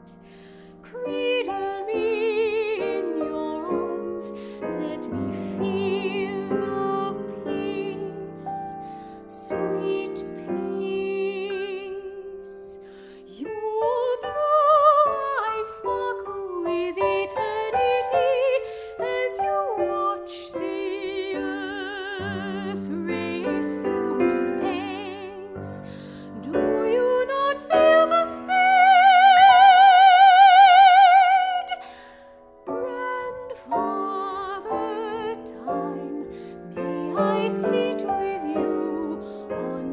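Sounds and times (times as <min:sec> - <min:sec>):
piano accompaniment: 0:00.0 - 0:39.9
soprano singing with vibrato: 0:00.0 - 0:39.9.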